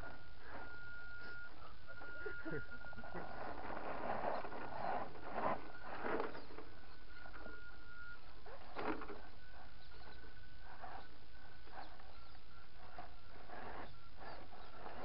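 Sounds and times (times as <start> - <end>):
electric motor whine: 0.0 - 15.0
tyres scraping on stone: 0.4 - 15.0.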